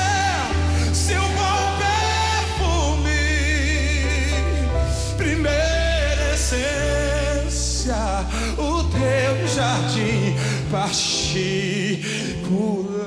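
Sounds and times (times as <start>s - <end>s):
low bass notes: 0.0s - 11.9s
man singing: 0.0s - 13.0s
worship band playing: 0.0s - 13.0s.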